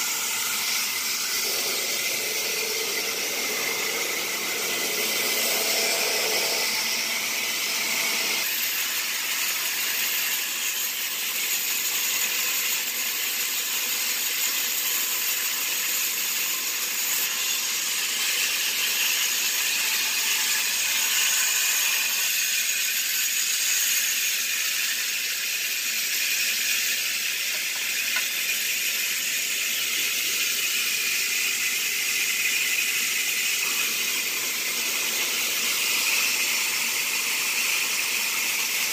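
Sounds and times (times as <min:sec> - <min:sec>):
band saw cutting timber: 0:00.0 - 0:38.9.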